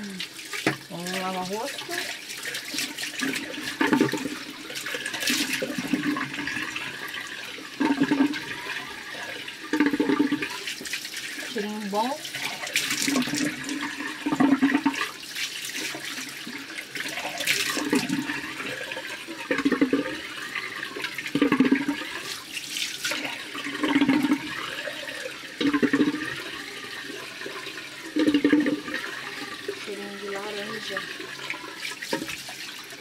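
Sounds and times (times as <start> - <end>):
sink tap running: 0.0 - 33.0.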